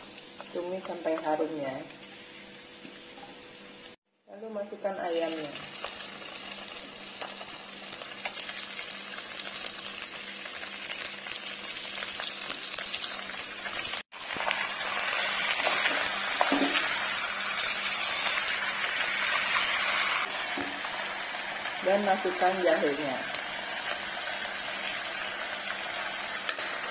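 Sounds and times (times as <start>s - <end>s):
chicken sizzling in hot oil: 0.0s - 26.9s.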